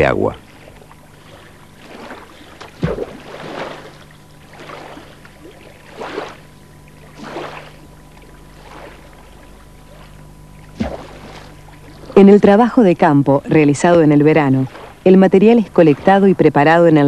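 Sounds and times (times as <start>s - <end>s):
steady low hum: 0.0s - 17.0s
water splashing against boat: 0.2s - 17.0s.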